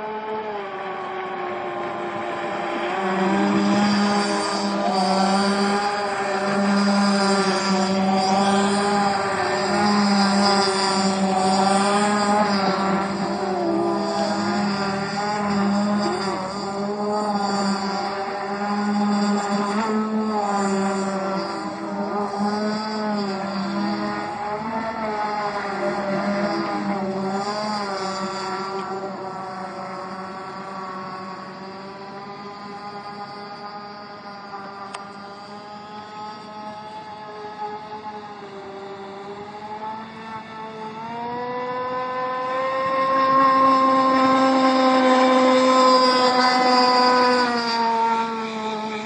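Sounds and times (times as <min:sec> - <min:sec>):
low drone: 0:00.0 - 0:49.0
rc boat motor revving: 0:00.0 - 0:49.0.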